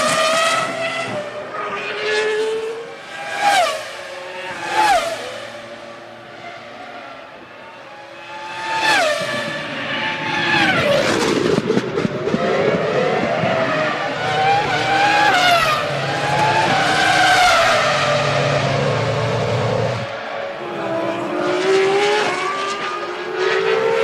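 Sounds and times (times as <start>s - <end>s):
racing car engines: 0.0s - 24.0s.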